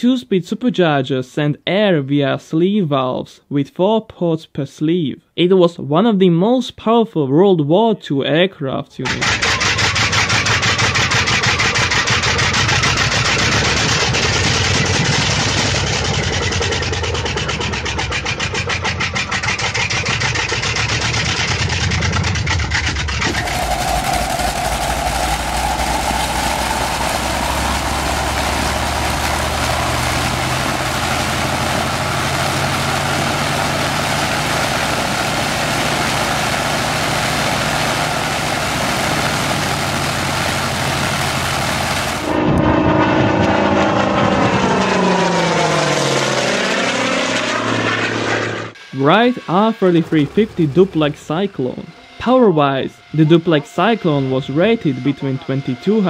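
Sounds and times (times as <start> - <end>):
engine whine: 9.0 - 56.0
radial aircraft engine running: 9.1 - 56.0.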